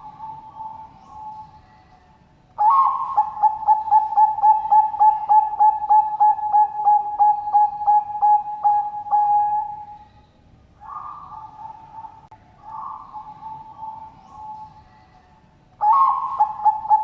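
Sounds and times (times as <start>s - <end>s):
dove cooing: 0.0s - 1.6s, 2.6s - 10.1s, 10.8s - 14.8s, 15.8s - 17.0s.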